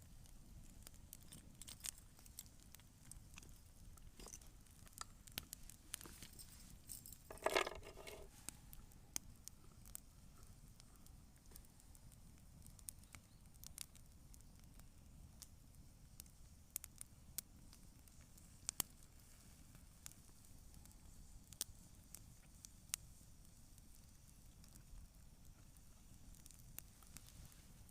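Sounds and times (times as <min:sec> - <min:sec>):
campfire crackling and popping: 0:00.0 - 0:27.9.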